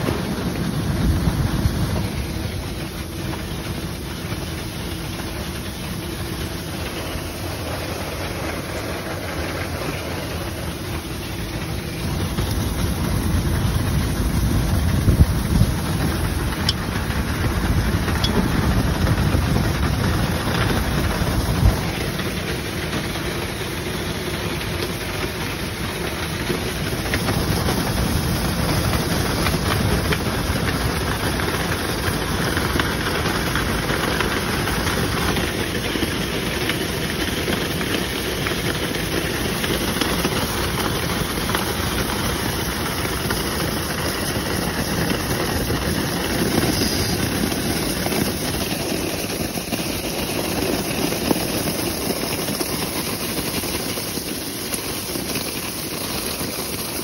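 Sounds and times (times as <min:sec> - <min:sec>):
air rushing through hose: 0:00.0 - 0:57.0
machine drone: 0:00.0 - 0:57.0.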